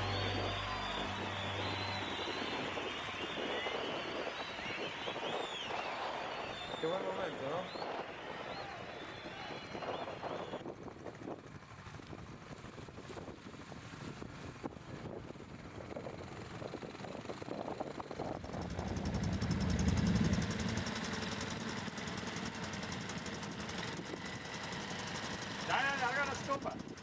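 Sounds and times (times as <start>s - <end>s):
vehicle engine running: 0.0s - 10.6s, 15.8s - 27.0s.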